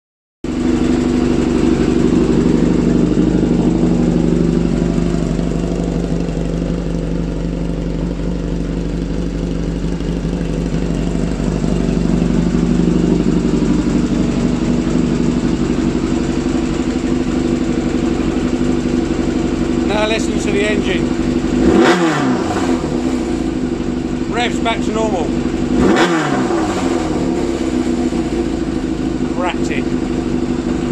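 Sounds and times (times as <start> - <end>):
motorcycle engine idling: 0.5 - 30.9.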